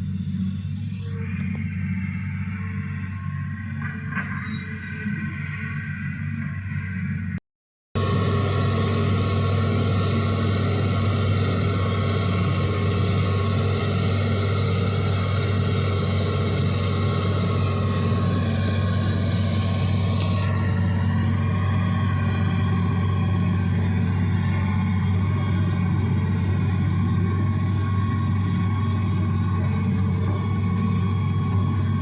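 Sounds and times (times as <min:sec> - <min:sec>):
excavator diesel engine running: 0:00.0 - 0:07.4, 0:08.0 - 0:32.0.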